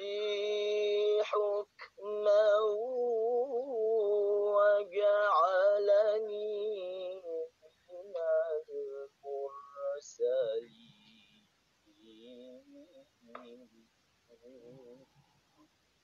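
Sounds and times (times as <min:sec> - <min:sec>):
person singing long held notes: 0:00.0 - 0:11.4, 0:12.0 - 0:15.1.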